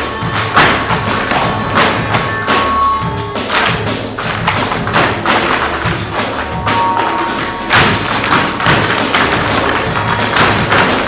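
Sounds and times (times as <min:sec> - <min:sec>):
flamenco-style music: 0:00.0 - 0:11.0
sharp percussive strikes: 0:00.0 - 0:11.0.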